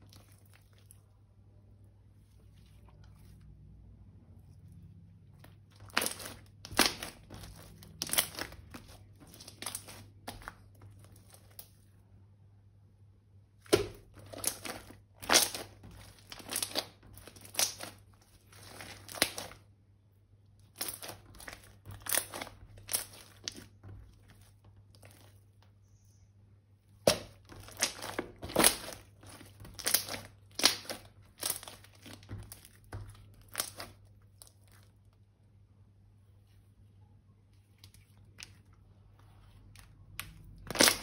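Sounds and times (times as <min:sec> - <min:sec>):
slime crackling squishes: 0:00.0 - 0:12.1, 0:13.5 - 0:26.0, 0:26.9 - 0:35.5, 0:37.5 - 0:41.0.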